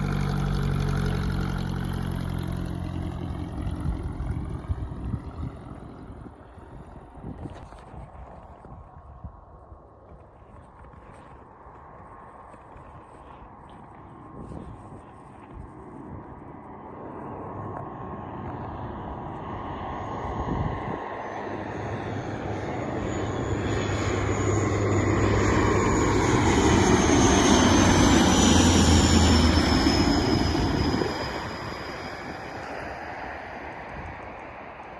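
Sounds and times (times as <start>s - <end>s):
airplane engine passing: 0.0s - 8.6s, 10.5s - 34.9s.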